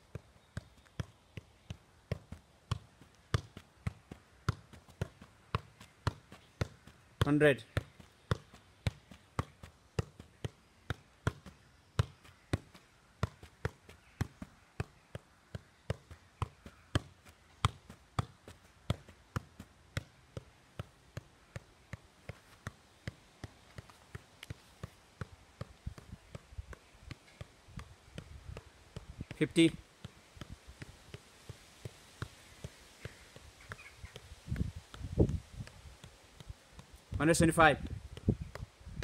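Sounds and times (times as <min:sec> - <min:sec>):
football bouncing off feet: 0:00.1 - 0:39.0.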